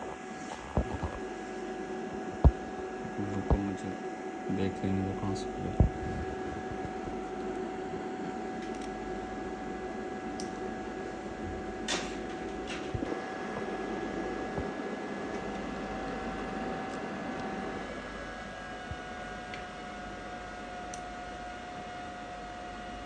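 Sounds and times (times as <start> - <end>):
fan-like machine hum: 0.0 - 23.0.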